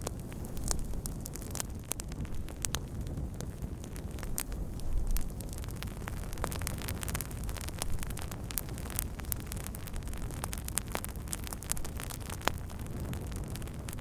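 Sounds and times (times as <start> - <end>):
burning wood popping: 0.0 - 14.0
low rumble of flames: 0.0 - 14.0
wood fire crackling: 0.0 - 14.0.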